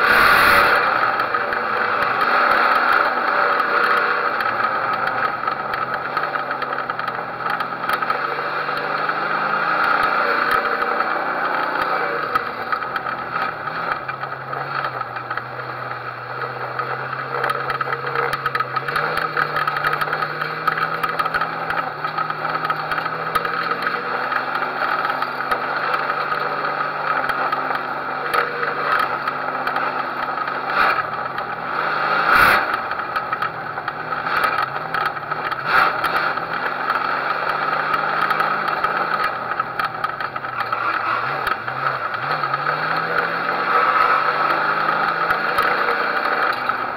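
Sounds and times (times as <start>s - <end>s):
race car engine running: 0.0s - 46.9s.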